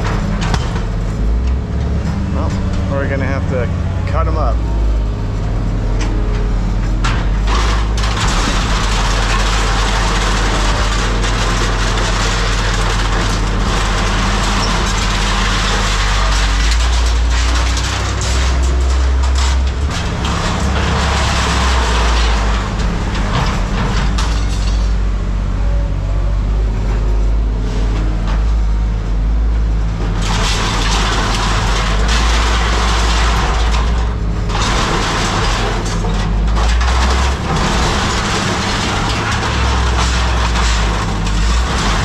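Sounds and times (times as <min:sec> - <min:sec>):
large engine rumbling: 0:00.0 - 0:42.0.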